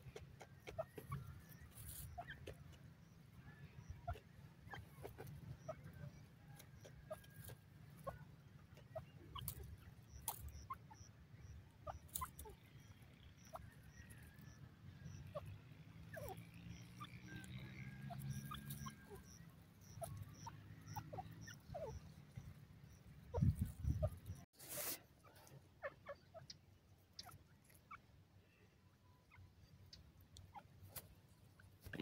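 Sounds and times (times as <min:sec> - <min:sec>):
bird chirps and clicks: 0:00.0 - 0:15.5, 0:16.1 - 0:24.5, 0:26.0 - 0:28.1, 0:29.3 - 0:32.0.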